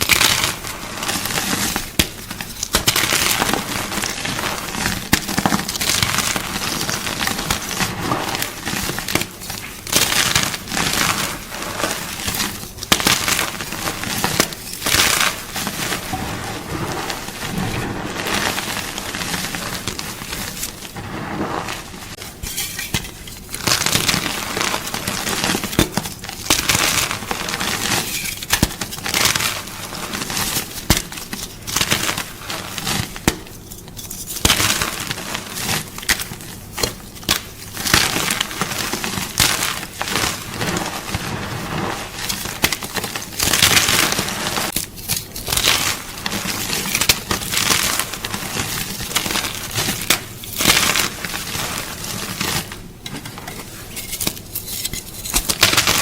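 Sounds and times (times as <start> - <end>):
chalk crunching and crackling: 0.0 - 56.0.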